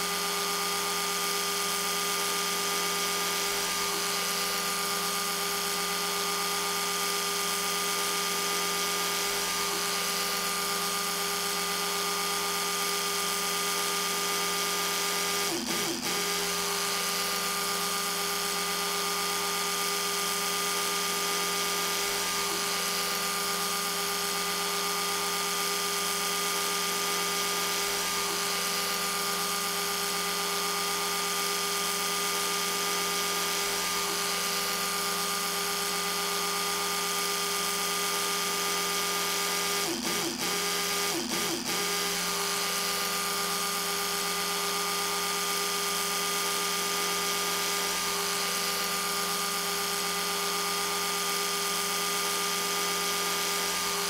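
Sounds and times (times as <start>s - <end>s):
electric toothbrush buzzing: 0.0s - 54.0s.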